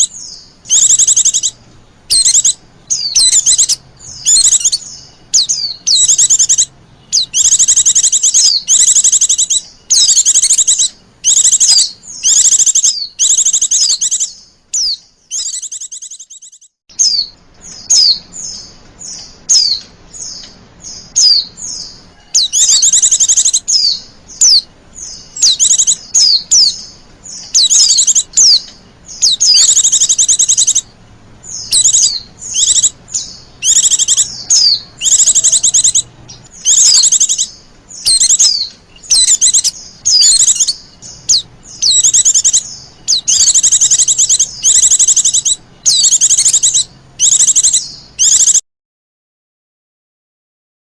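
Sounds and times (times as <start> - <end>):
bird chirps and trills: 0.0 - 48.6.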